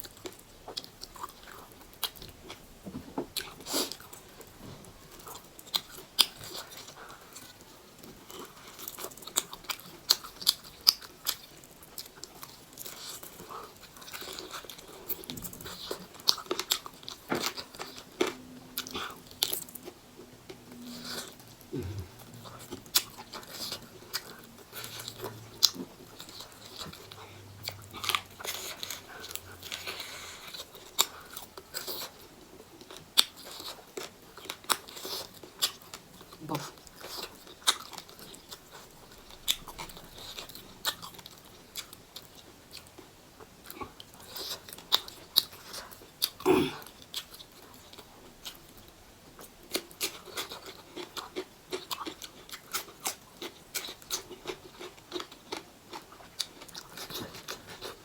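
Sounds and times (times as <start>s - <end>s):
chewing and crunching chicken wings: 0.0s - 58.0s.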